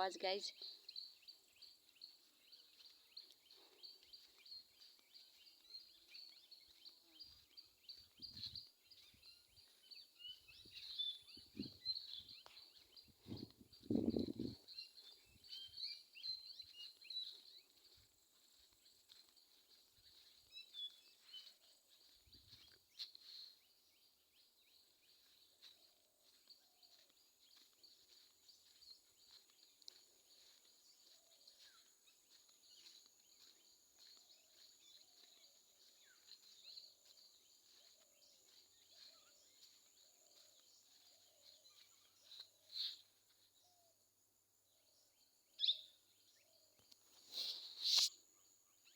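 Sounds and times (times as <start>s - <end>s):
birds chirping: 0.0s - 43.7s.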